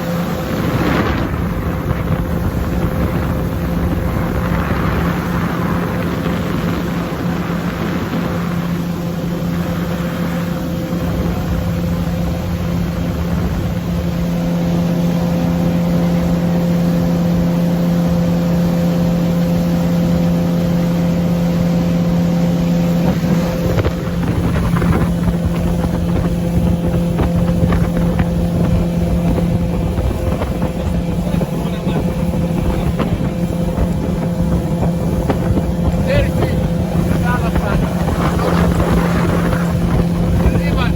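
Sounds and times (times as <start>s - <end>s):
motorboat engine humming: 0.0s - 40.9s
wind and water rushing: 0.0s - 40.9s.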